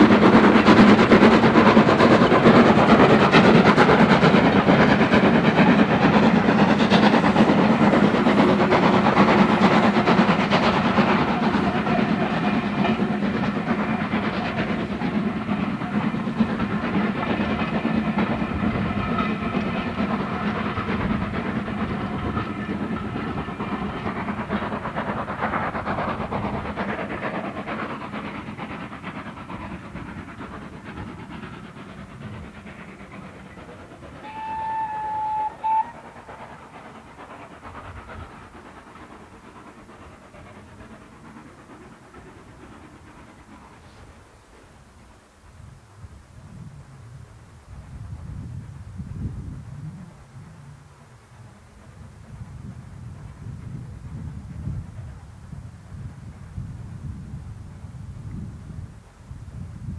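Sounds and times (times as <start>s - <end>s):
steam locomotive exhaust beats: 0.0s - 59.9s
train wheels rolling on rails: 0.0s - 59.9s.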